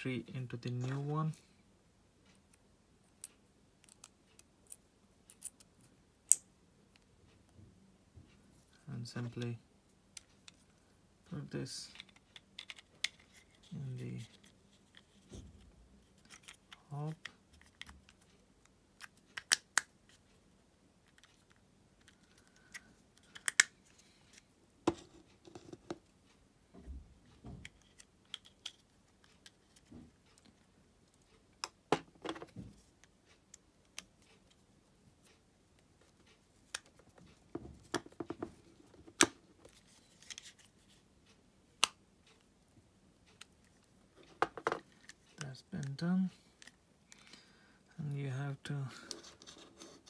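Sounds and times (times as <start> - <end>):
faint rubbing and handling noise: 0.0 - 1.6, 6.9 - 19.4, 20.0 - 41.5, 42.2 - 50.0.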